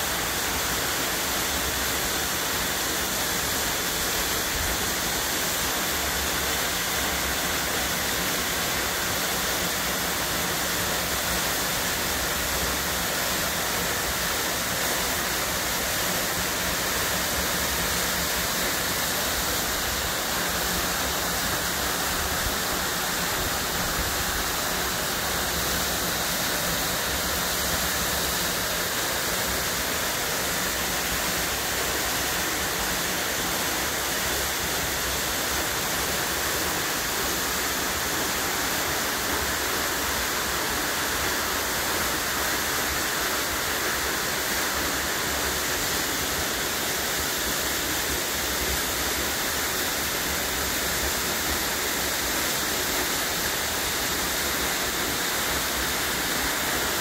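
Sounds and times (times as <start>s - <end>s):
waterfall rushing into a pool: 0.0s - 57.0s.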